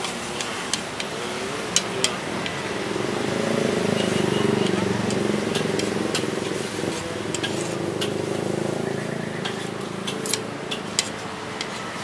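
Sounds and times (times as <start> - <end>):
vehicle engine hum: 0.4 - 12.0.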